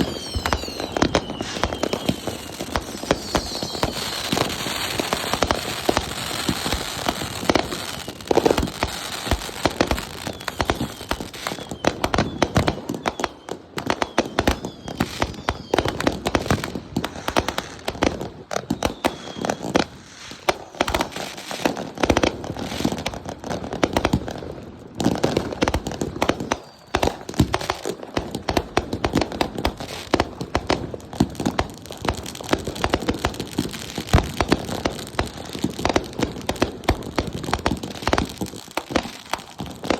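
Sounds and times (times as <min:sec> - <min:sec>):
fireworks bangs: 0:00.0 - 0:39.9
fireworks crackling and popping: 0:00.0 - 0:39.9.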